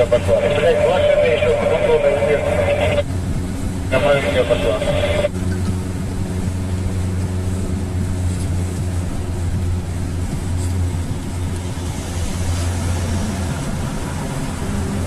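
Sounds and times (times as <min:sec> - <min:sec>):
truck engine droning under load: 0:00.0 - 0:15.0.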